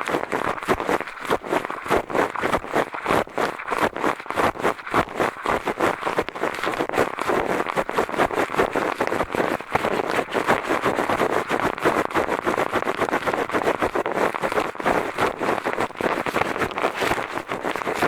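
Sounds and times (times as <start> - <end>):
eyeglasses scratching on microphone: 0.0 - 18.0.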